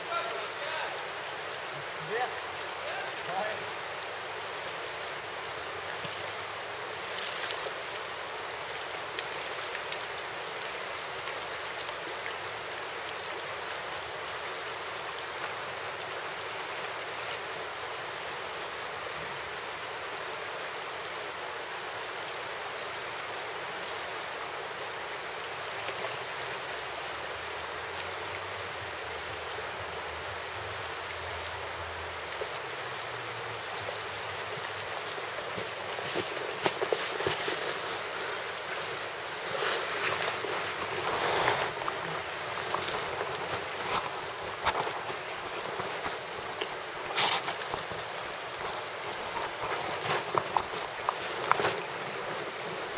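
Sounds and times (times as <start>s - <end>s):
river water rushing over stones: 0.0s - 52.9s.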